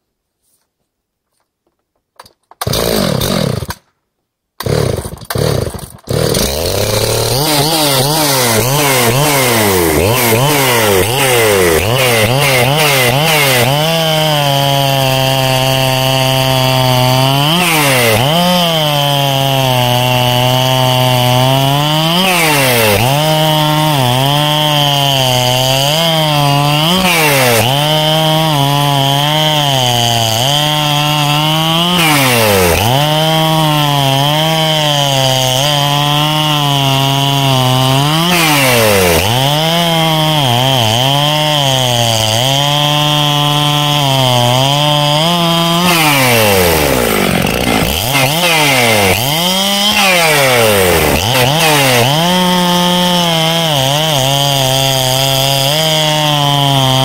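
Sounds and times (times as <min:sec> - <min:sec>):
chainsaw cutting wood: 0:02.2 - 0:04.0, 0:04.6 - 0:57.0
chainsaw starting and revving: 0:02.6 - 0:03.9, 0:04.6 - 0:57.0.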